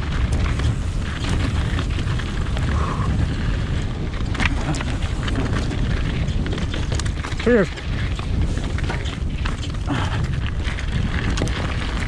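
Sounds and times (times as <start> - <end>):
bike rattling: 0.0 - 12.0
tyres crunching over loose stones: 0.0 - 12.0
wind and rolling tyres rumble: 0.0 - 12.0.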